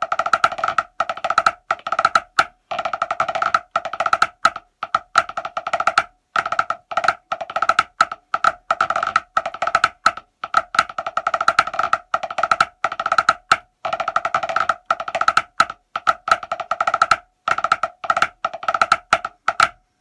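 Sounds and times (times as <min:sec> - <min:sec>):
drumsticks on a practice pad: 0:00.0 - 0:19.8.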